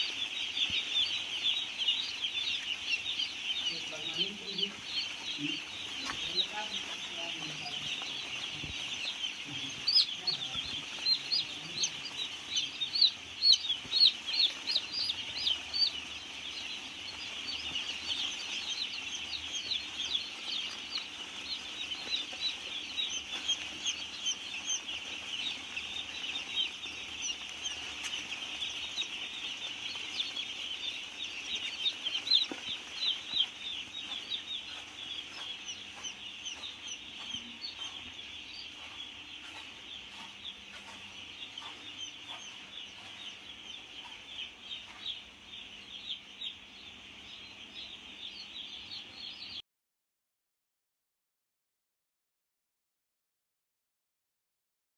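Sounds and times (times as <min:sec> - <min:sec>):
chicks peeping: 0:00.0 - 0:49.6.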